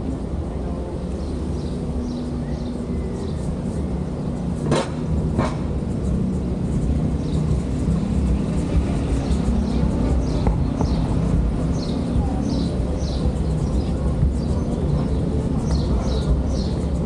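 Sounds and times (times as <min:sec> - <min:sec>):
low engine rumble: 0:00.0 - 0:17.0
small birds chirping: 0:00.1 - 0:17.0.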